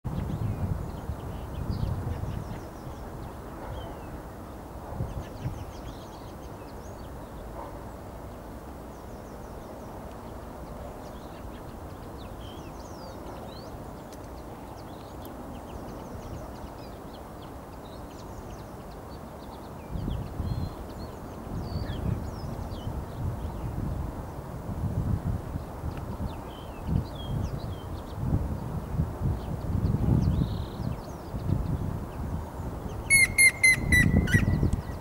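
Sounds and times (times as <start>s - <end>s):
small birds chirping: 0.1s - 23.7s, 29.4s - 35.0s.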